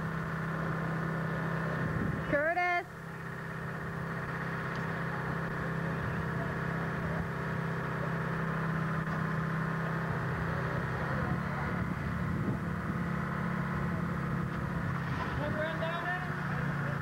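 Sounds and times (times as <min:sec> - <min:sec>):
crane engine idling: 0:00.0 - 0:17.0.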